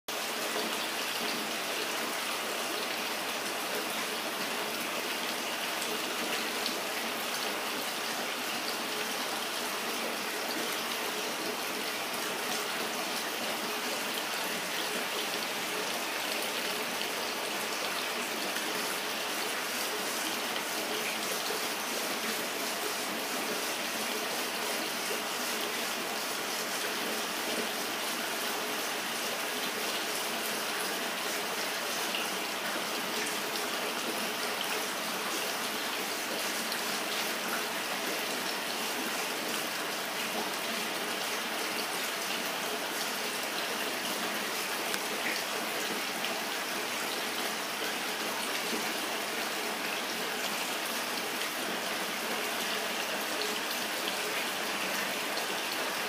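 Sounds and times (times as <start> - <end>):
running splashing water: 0.1 - 56.0.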